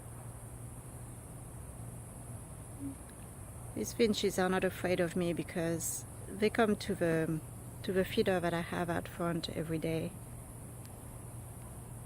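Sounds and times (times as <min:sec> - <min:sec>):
crickets chirping: 0:00.0 - 0:12.0
low steady hum: 0:00.0 - 0:12.0.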